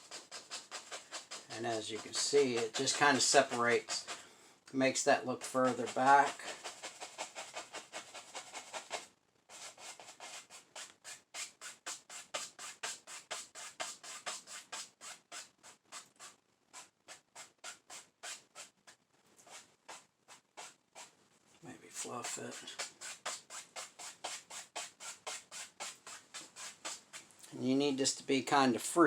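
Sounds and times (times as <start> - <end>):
paintbrush dabbing on canvas: 0.0 - 21.1, 21.9 - 27.3.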